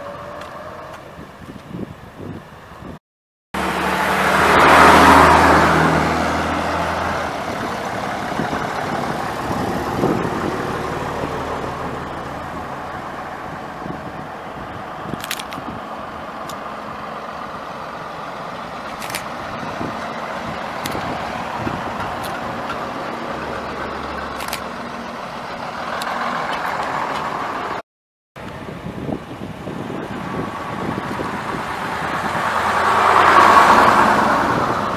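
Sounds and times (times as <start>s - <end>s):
road noise: 0.0s - 3.0s, 3.6s - 27.8s, 28.4s - 34.9s
vehicle engine passing: 3.6s - 27.8s, 29.7s - 34.9s.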